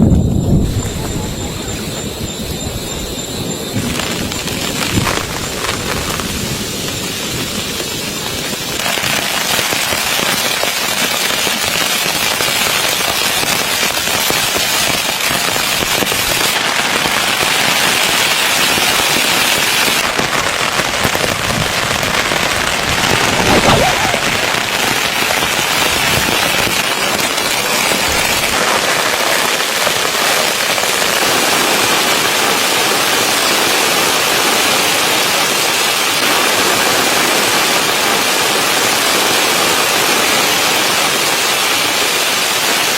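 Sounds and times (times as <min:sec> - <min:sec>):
rain pattering on tent fabric: 0:03.9 - 0:42.9.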